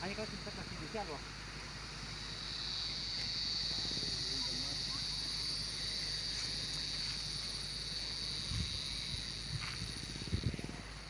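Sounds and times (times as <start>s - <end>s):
high-pitched insect drone: 0.0s - 11.0s
low engine rumble: 0.0s - 11.0s.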